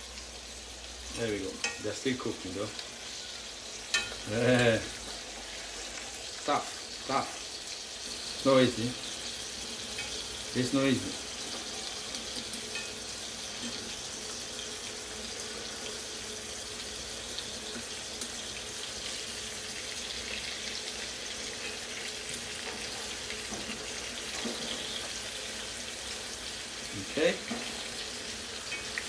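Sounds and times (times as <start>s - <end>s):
fish sizzling in oil: 0.0s - 29.0s.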